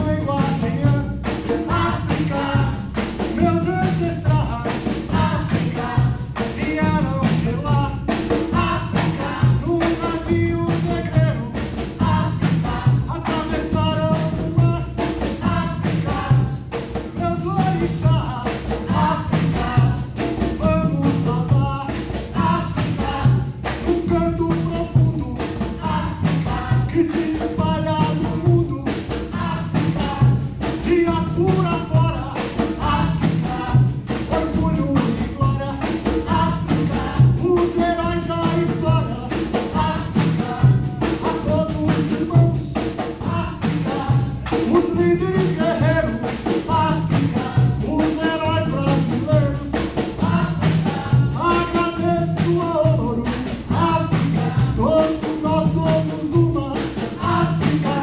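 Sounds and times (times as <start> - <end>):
hand drums playing rhythm: 0.0 - 58.0
people singing: 0.0 - 58.0.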